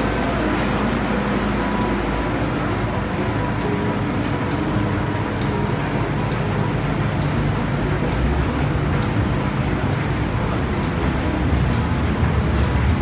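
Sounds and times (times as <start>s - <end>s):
train pulling away: 0.0s - 13.0s.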